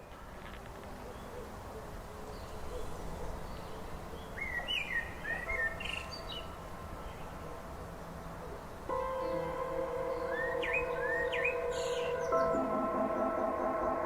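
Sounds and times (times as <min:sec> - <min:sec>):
birds chirping: 0:01.0 - 0:14.0.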